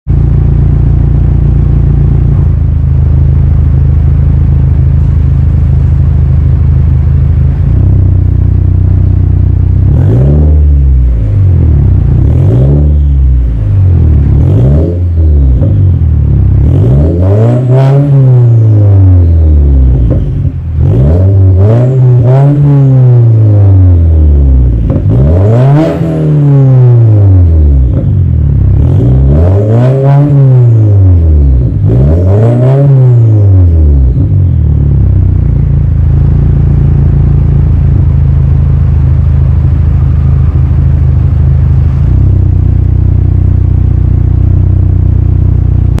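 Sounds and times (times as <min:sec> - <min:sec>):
car engine revving and idling: 0:00.1 - 0:46.0.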